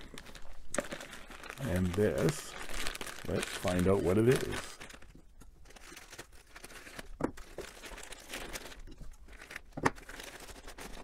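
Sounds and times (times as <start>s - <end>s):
plastic bag crinkling: 0.0s - 11.0s
sharp plastic crackles: 0.0s - 11.0s.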